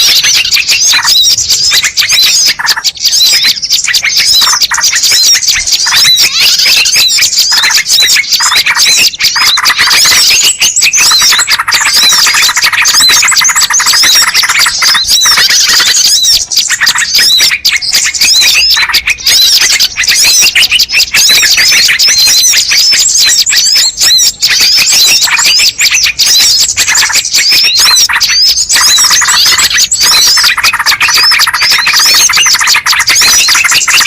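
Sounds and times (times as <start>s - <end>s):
chorus of small birds chirping: 0.0s - 34.0s.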